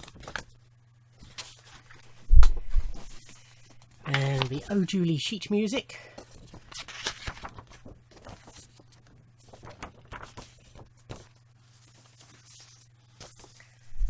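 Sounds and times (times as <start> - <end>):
paper and card rustling: 0.0 - 0.6, 1.2 - 14.0.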